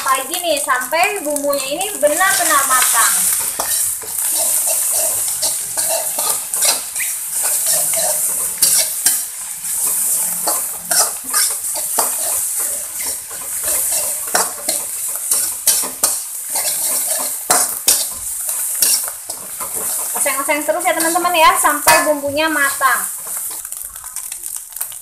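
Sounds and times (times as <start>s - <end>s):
food sizzling in oil: 0.0s - 25.0s
metal spatula scraping a wok: 1.6s - 24.3s.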